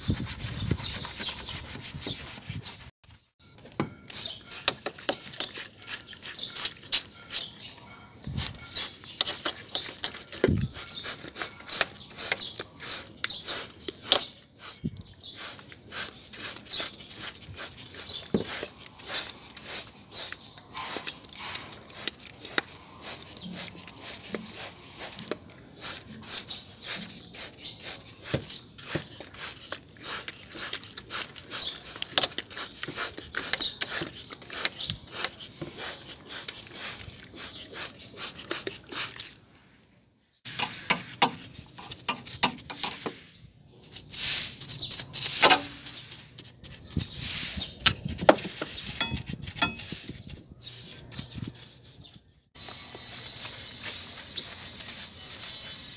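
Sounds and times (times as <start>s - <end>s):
brush bristles scrubbing wet parts: 0.0s - 3.3s, 4.1s - 7.7s, 8.4s - 39.4s, 40.5s - 55.9s.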